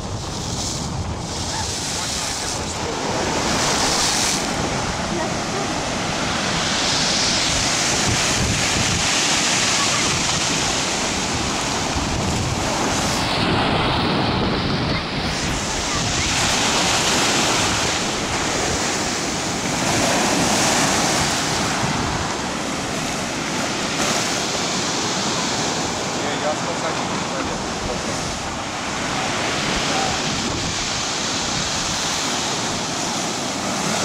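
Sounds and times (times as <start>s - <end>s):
wind on microphone: 0.0s - 26.1s, 27.4s - 34.0s
waves breaking on beach: 0.0s - 34.0s.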